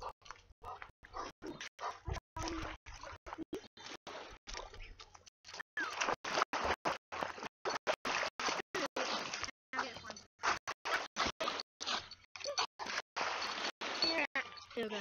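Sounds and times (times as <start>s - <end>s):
dog splashing in water: 0.2s - 14.5s.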